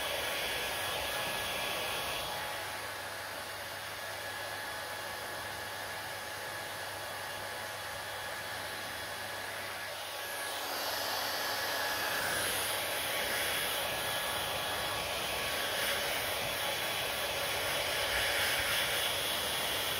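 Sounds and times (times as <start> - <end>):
hair dryer blowing: 0.0 - 19.9.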